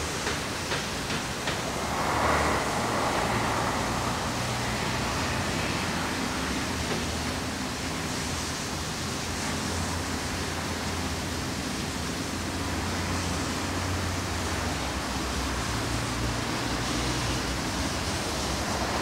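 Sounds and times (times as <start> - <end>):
hiss of escaping steam: 0.0 - 19.0
steam locomotive low rumble: 0.0 - 19.0.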